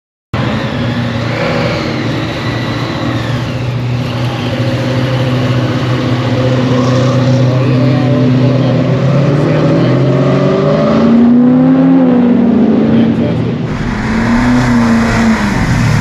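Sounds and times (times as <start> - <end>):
car engine running low revs: 0.4 - 16.0.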